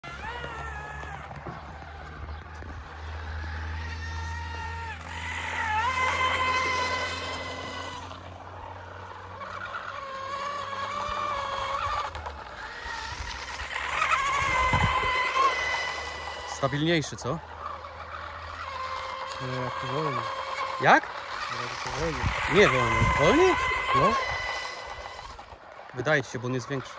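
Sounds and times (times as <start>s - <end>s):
model boat motor whining: 0.0s - 26.9s.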